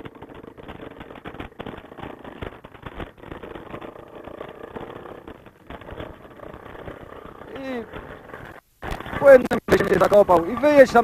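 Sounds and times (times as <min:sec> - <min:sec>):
atv engine running: 0:00.0 - 0:11.0
knocks and rattles: 0:00.0 - 0:11.0.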